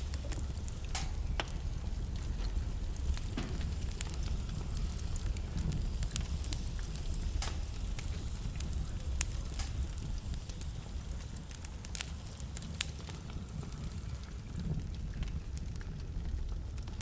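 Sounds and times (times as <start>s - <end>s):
wood fire crackling in fireplace: 0.0s - 17.0s.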